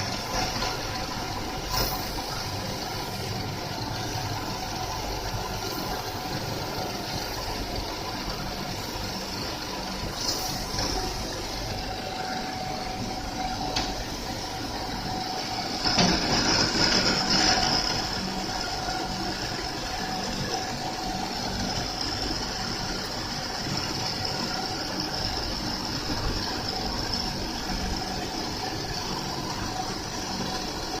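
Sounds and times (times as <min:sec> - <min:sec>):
grinding machine humming: 0:00.0 - 0:31.0.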